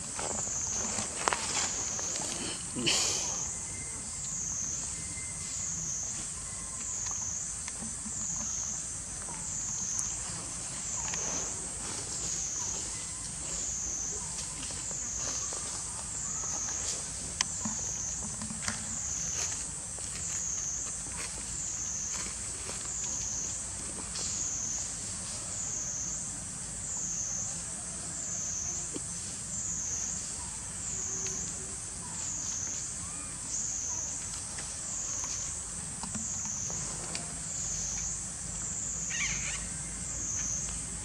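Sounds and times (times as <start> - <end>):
cicada chorus drone: 0.0 - 41.0.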